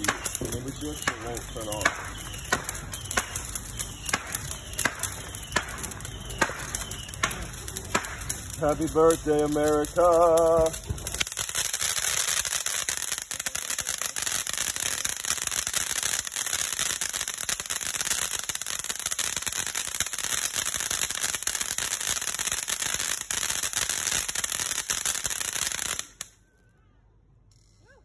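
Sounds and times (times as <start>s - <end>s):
firework fountain hissing and crackling: 0.0s - 26.4s.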